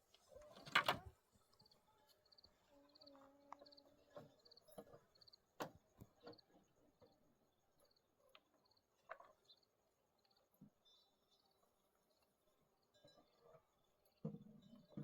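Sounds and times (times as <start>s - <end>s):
faint cricket chirping: 0.0s - 15.0s.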